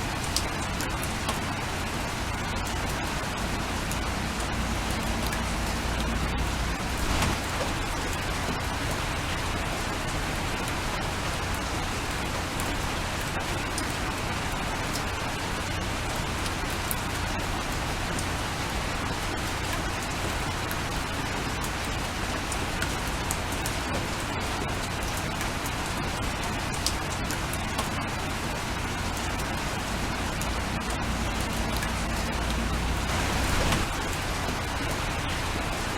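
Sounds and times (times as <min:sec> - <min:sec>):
steady rain: 0:00.0 - 0:35.9.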